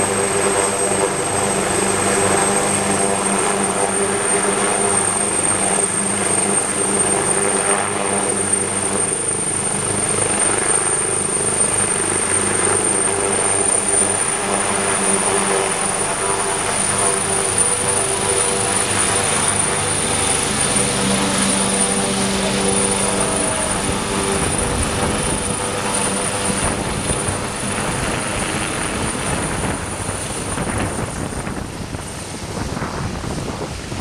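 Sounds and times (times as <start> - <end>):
helicopter rotor noise: 0.0 - 34.0
helicopter turbine whine: 0.0 - 34.0.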